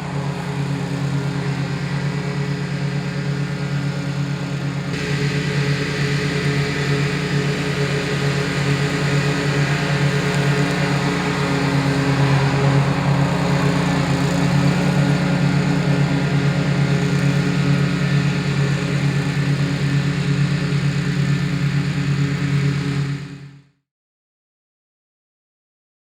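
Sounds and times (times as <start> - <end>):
mower engine running: 0.0 - 23.7.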